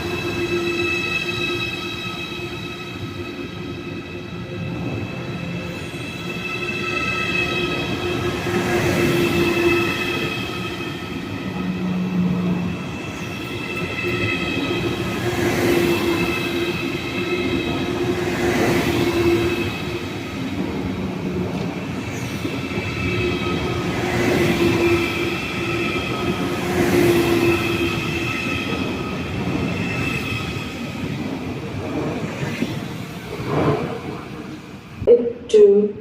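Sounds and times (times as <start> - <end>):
train rumble: 0.0 - 35.2.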